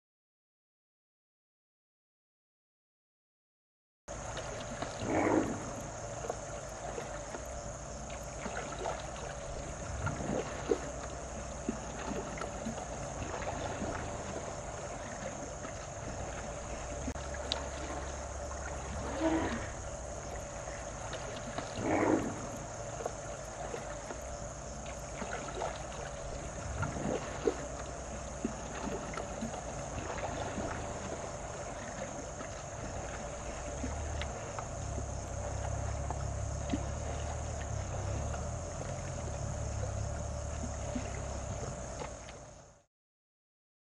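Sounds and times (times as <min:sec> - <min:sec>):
high insect chorus: 0:04.1 - 0:42.8.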